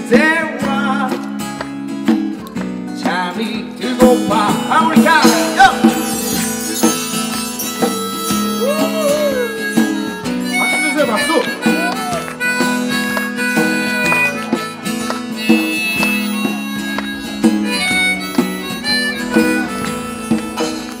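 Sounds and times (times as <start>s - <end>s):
strummed acoustic guitars: 0.0s - 21.0s
hand drum beat: 0.9s - 21.0s
harmonica: 3.8s - 21.0s.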